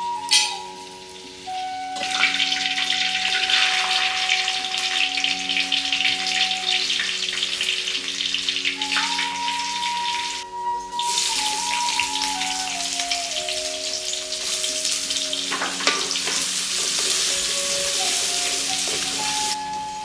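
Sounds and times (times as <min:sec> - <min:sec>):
onion sizzling in hot oil: 0:00.0 - 0:19.9
soft melody: 0:00.0 - 0:20.0.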